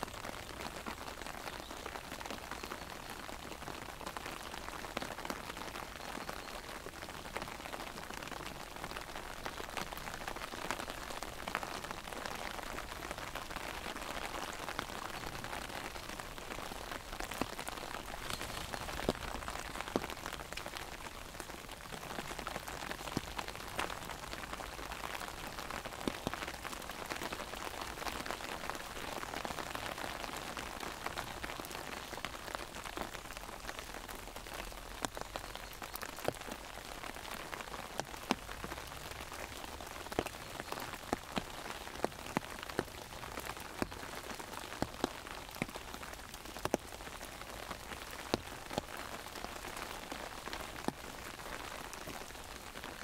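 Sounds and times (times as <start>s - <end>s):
raindrops tapping an umbrella: 0.0s - 53.0s
steady rain: 0.0s - 53.0s.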